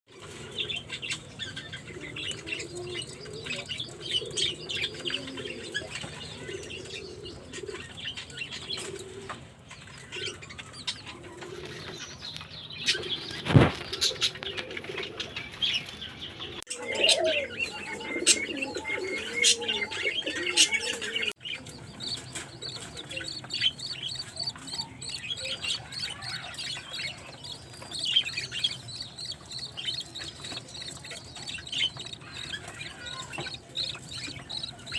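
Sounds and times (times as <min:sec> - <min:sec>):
budgies chirping and chattering: 0:00.1 - 0:34.9.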